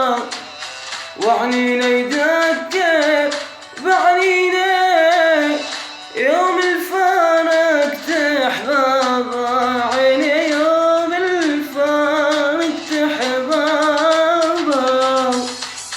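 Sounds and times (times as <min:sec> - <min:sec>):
man vocalizing a wavering melody: 0:01.2 - 0:15.6.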